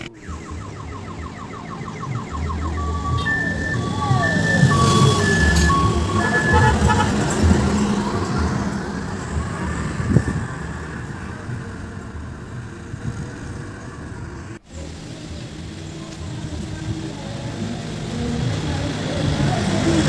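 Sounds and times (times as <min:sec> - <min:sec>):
minibus passing by: 0:00.0 - 0:20.0.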